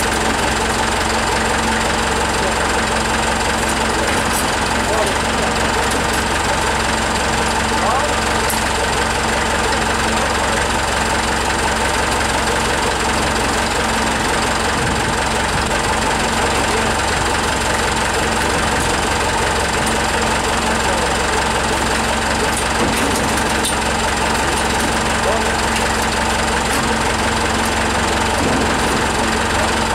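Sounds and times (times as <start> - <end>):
forklift engine idling: 0.0 - 29.9.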